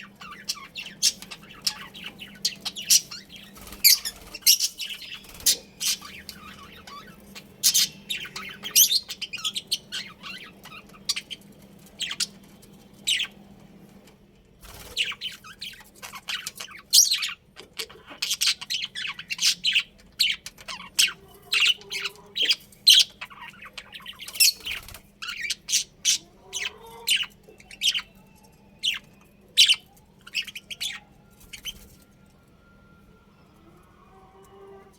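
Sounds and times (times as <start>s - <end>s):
budgerigars chirping and squawking: 0.0s - 13.6s, 14.7s - 32.0s.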